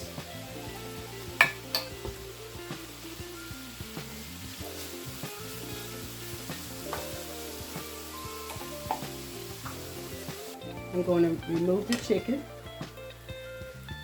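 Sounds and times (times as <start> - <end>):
food sizzling in a skillet: 0.0 - 14.0.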